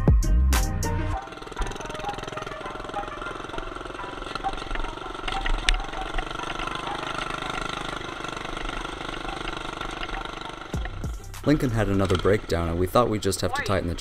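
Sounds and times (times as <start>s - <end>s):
small engine running: 1.0s - 14.0s.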